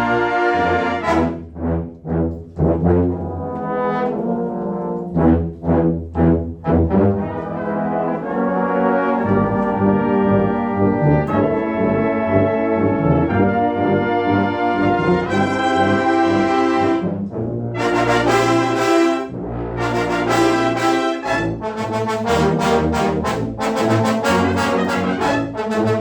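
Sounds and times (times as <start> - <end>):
brass ensemble playing chords: 0.0 - 26.0.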